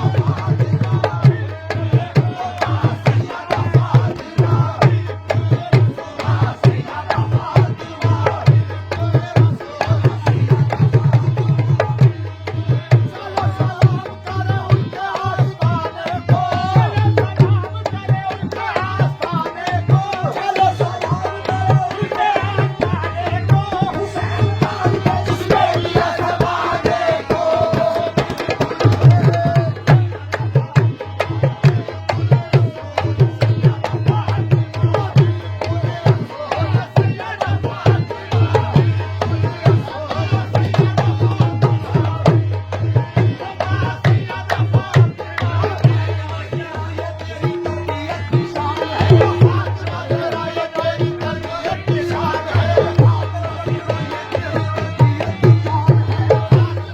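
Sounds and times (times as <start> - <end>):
hand drum rhythm: 0.0 - 56.9.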